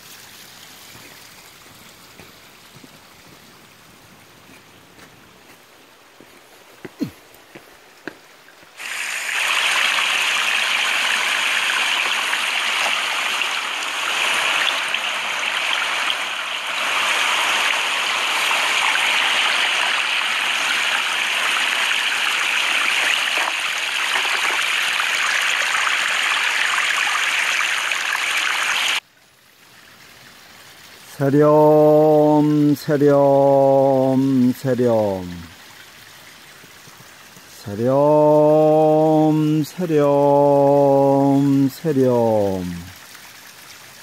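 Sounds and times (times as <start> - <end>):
stream water rushing: 0.0 - 29.0, 30.7 - 44.0.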